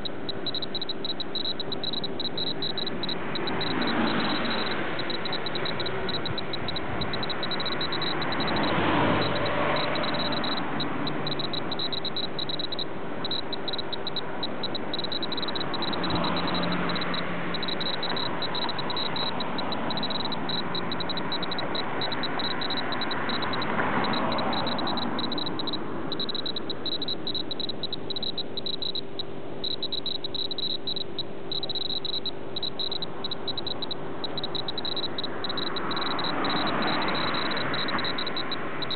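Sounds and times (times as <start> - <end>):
vehicles passing: 0.0 - 38.9.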